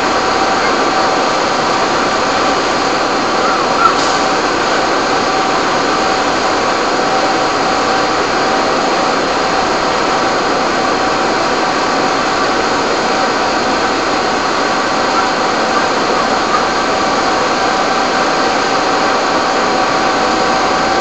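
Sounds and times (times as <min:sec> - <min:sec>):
fire engine pumps roaring: 0:00.0 - 0:21.0.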